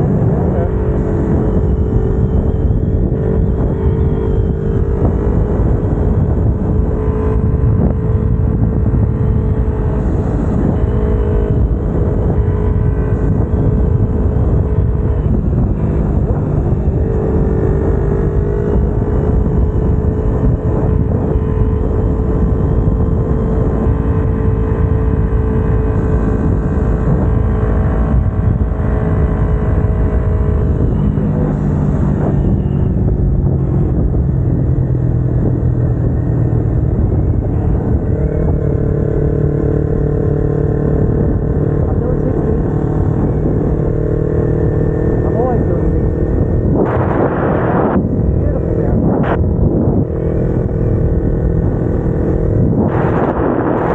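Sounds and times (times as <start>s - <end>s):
motorcycle engine cruising: 0.0s - 53.9s
wind rush: 0.0s - 53.9s.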